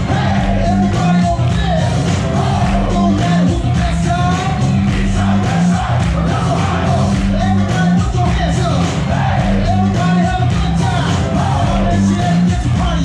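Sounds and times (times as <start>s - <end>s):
heavy bass beat: 0.0s - 13.0s
pop dance music with singing: 0.0s - 13.0s.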